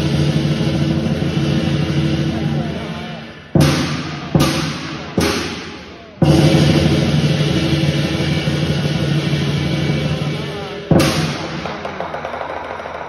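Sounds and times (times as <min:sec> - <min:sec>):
cymbal crashes ringing: 0:00.0 - 0:13.0
fast drumming and cymbal clashing: 0:00.0 - 0:13.0.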